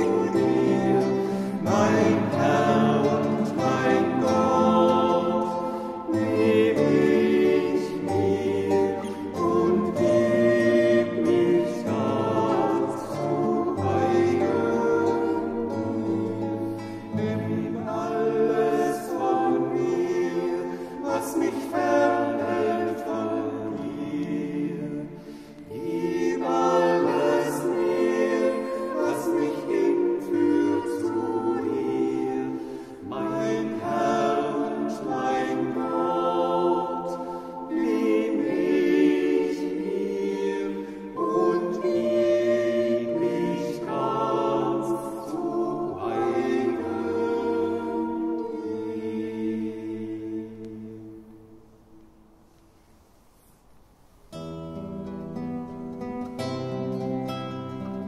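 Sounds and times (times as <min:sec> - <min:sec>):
choir singing a chant: 0:00.0 - 0:51.5.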